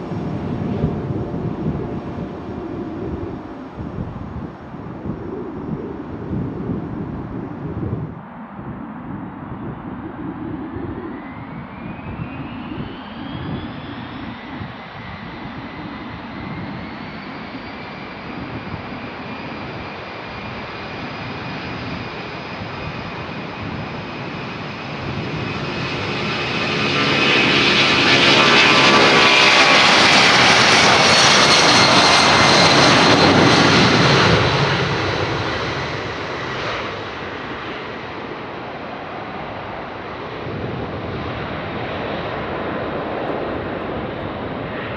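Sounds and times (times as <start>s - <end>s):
jet engines spooling up: 0.0s - 44.9s
jet passing at takeoff power: 0.0s - 44.9s.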